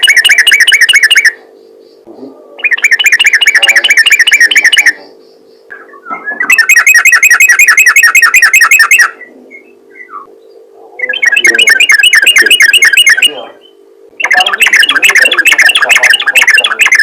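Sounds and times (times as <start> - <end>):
bird singing rapid repeated notes: 0.0 - 17.0
faint steady hum: 0.0 - 17.0.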